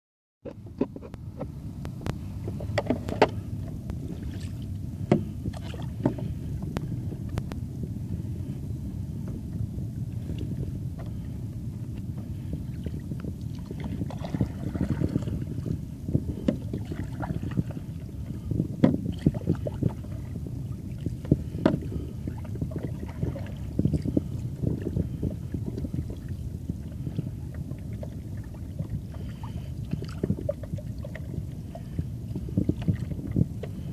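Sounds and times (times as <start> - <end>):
muffled water rumble: 0.4 - 33.9.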